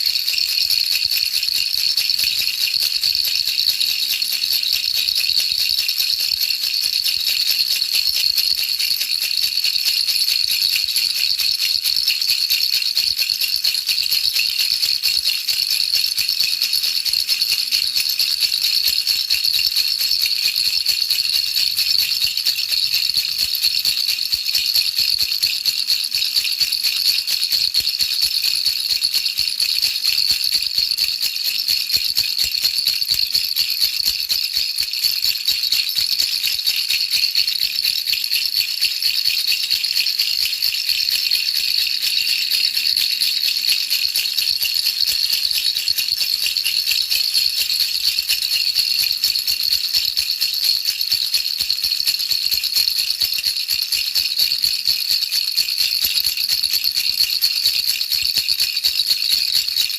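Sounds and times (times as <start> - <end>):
baby rattle shaking: 0.0 - 59.9.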